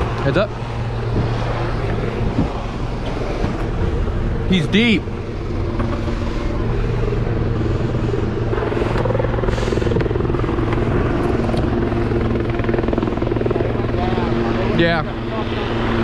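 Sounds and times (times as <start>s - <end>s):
boat motors idling: 0.0s - 16.0s.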